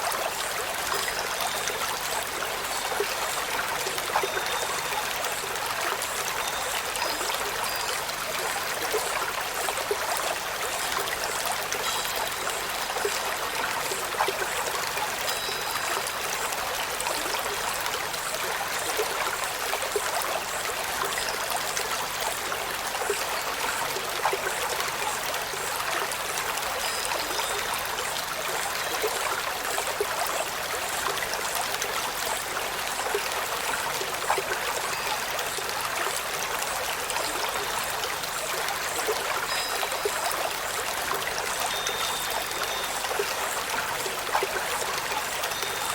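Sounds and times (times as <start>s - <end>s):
running water: 0.0s - 45.9s.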